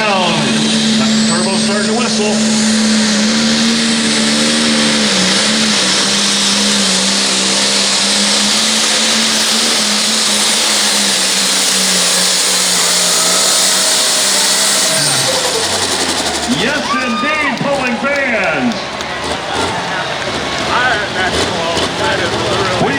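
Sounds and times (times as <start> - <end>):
tractor engine under load: 0.0 - 22.9
turbo whistling: 0.0 - 22.9.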